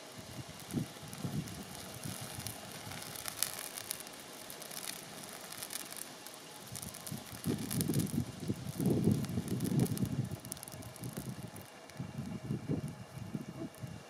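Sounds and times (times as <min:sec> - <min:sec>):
wind rumbling on microphone: 0:00.0 - 0:06.0, 0:06.6 - 0:14.0
dry grass crackling as it burns: 0:00.0 - 0:14.0.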